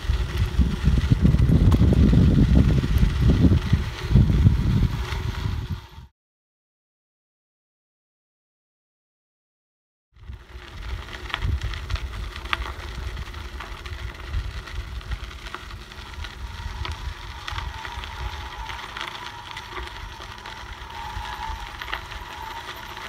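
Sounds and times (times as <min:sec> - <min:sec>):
mountain bike rumbling on dirt: 0:00.0 - 0:06.1, 0:10.2 - 0:23.0.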